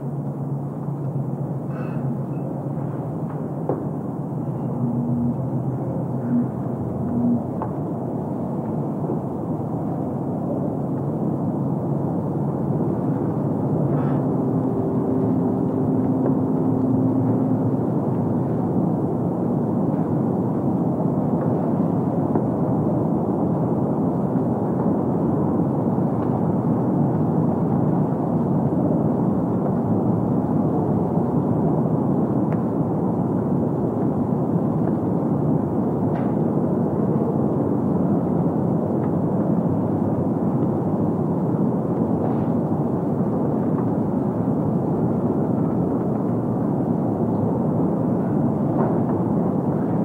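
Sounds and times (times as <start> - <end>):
low steady tones: 0.0 - 50.0
muffled noise rumble: 0.0 - 50.0.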